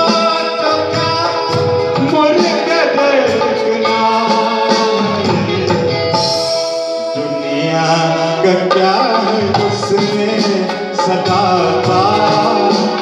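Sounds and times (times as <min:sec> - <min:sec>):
live band playing: 0:00.0 - 0:13.0
man singing into microphone: 0:00.0 - 0:13.0.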